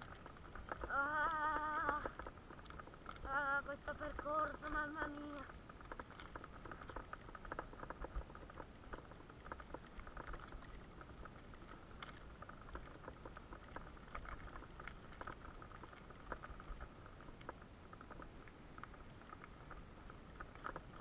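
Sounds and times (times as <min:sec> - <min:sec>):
bike tyres crackling over gravel: 0:00.0 - 0:21.0.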